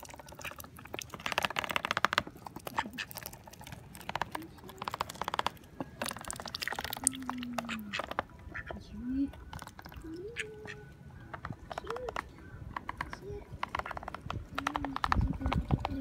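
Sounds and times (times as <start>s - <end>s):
duck bill dabbling and clicking: 0.0s - 16.0s.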